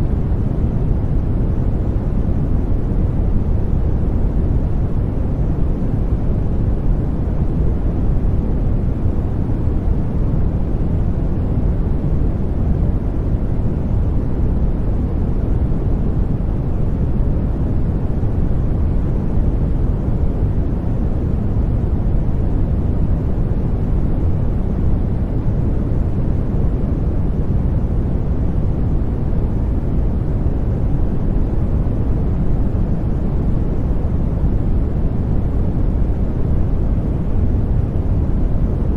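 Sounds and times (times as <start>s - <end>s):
deep white noise rumble: 0.0s - 38.9s.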